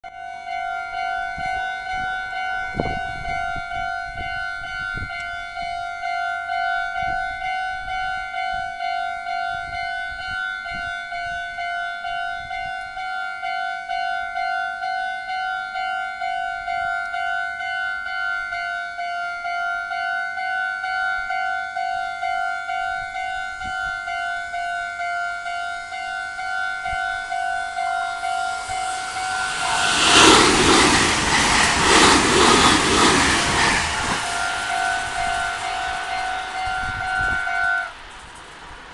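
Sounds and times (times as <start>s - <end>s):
level crossing warning bell: 0.1s - 29.2s, 34.4s - 38.0s.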